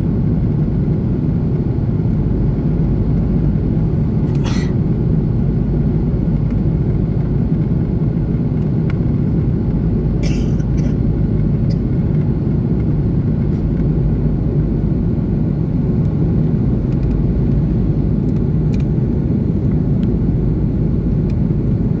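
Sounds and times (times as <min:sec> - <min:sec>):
jet engine roar in cabin: 0:00.0 - 0:22.0.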